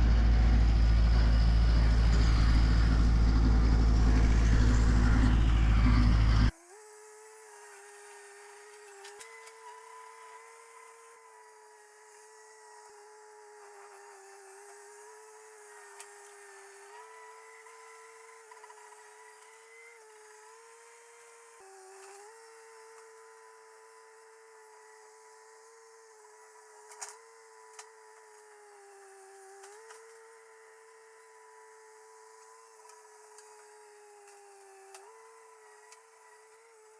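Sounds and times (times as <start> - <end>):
steady motor whine: 0.0 - 36.9.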